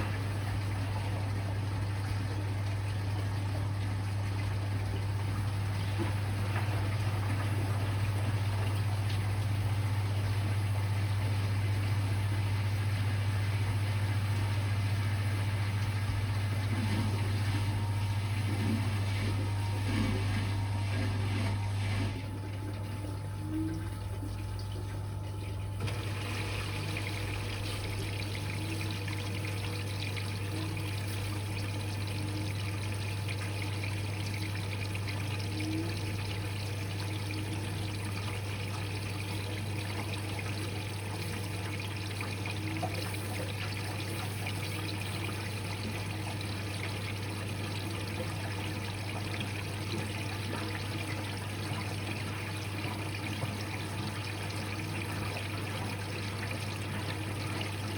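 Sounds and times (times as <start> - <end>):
washing machine low hum: 0.0 - 57.9
water rushing into drum: 0.0 - 57.9.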